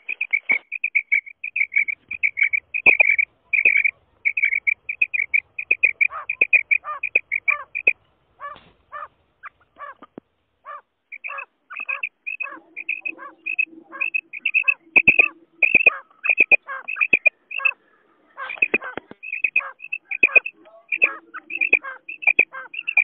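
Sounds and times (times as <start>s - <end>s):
quail calls: 0.0s - 23.0s.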